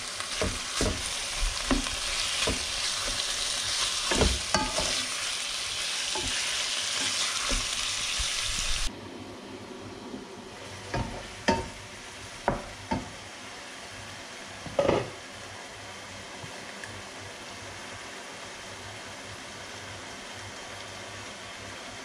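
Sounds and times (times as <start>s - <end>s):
food sizzling in a frying pan: 0.0s - 8.9s, 10.5s - 22.0s.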